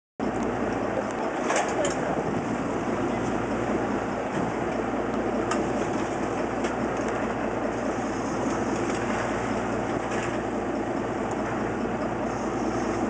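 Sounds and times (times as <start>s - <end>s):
boat engine running: 0.2s - 13.0s
water rushing along hull: 0.2s - 13.0s.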